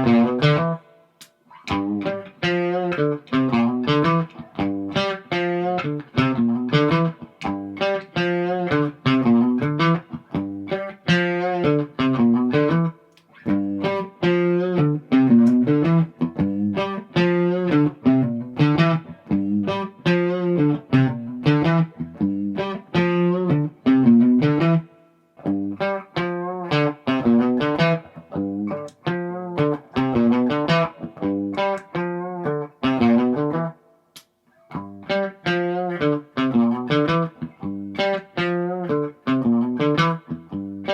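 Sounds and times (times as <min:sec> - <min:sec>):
electric guitar chords and riffs: 0:00.0 - 0:40.9.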